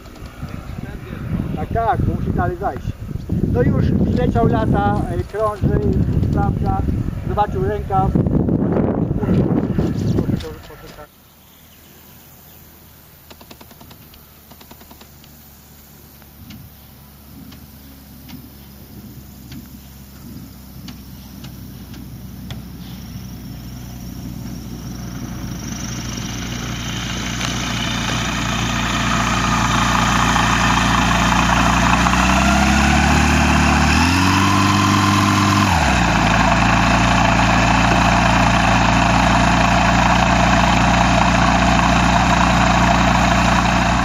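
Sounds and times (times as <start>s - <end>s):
light aircraft engine and propeller: 0.0s - 44.0s.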